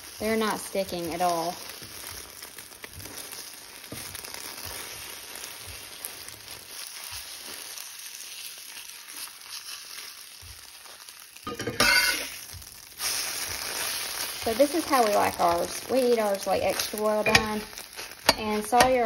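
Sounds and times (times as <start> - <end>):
eggs sizzling in skillet: 0.0 - 19.0.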